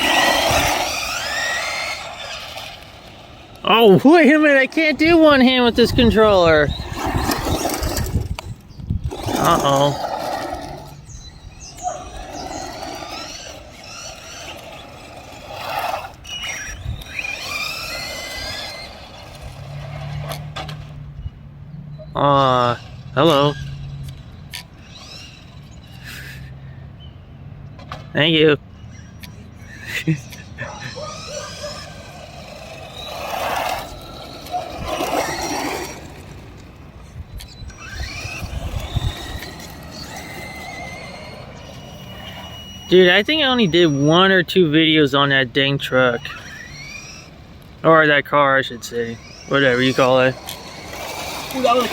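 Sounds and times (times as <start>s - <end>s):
toy car electric motors whining: 0.0s - 21.2s, 22.1s - 26.9s, 28.8s - 51.9s
tyre noise: 0.0s - 21.2s, 30.0s - 51.9s.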